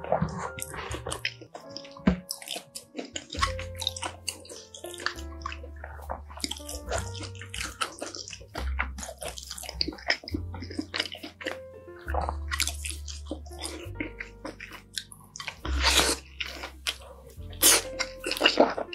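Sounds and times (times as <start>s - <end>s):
background music: 0.0s - 18.9s
wet chewing with mouth clicks: 0.0s - 18.9s.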